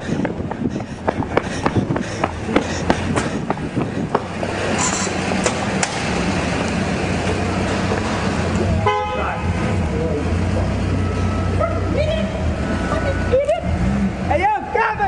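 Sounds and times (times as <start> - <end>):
street traffic: 0.0 - 15.0
vehicle engine running: 0.0 - 15.0.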